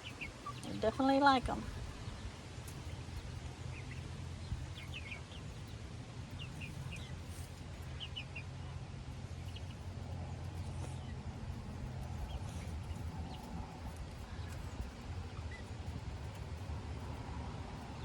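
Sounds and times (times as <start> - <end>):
chickens chirping: 0.0 - 18.0.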